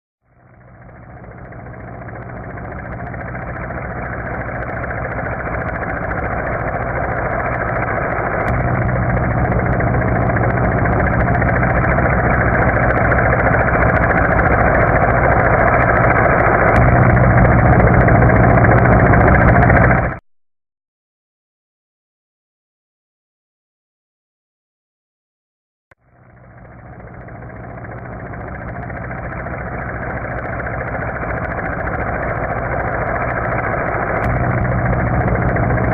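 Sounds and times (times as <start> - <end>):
helicopter rotor and engine: 0.4 - 20.2, 26.2 - 35.9.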